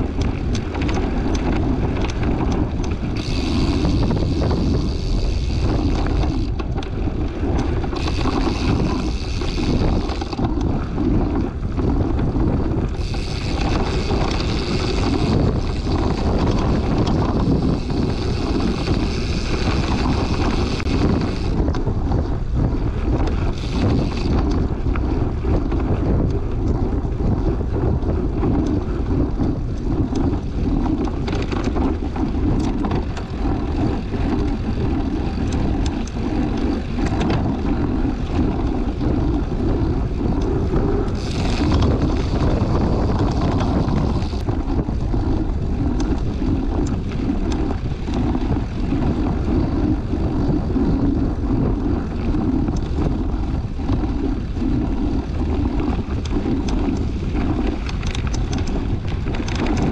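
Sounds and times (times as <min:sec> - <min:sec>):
low rumble: 0:00.0 - 0:59.9
wind buffeting microphone: 0:00.0 - 0:59.9.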